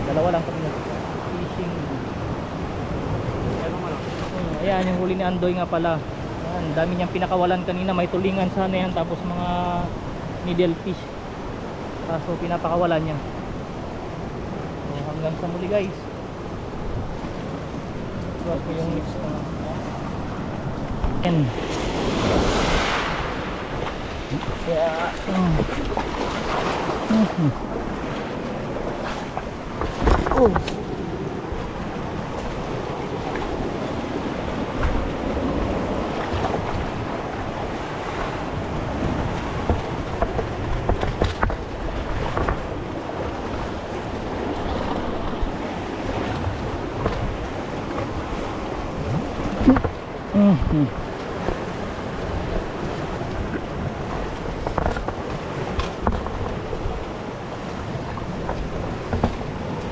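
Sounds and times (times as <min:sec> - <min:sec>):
sea water washing against rocks: 0:10.0 - 0:59.9.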